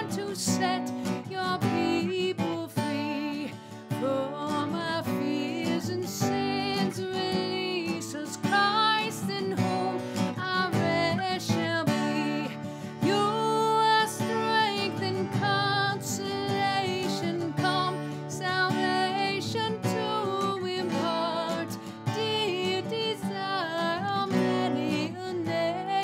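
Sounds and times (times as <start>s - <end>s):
acoustic guitar strumming: 0.0s - 26.0s
woman singing with vibrato: 0.0s - 26.0s.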